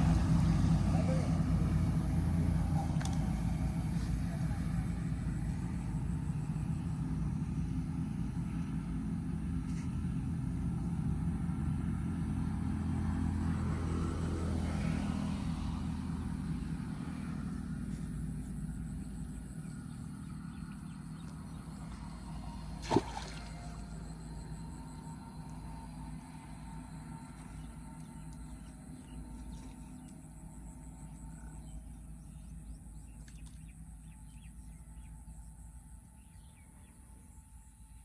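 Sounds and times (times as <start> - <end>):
low engine rumble: 0.0 - 38.0.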